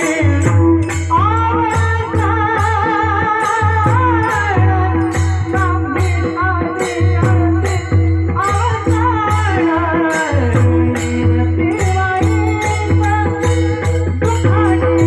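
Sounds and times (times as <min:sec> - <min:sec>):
man singing devotional melody: 0:00.0 - 0:15.0.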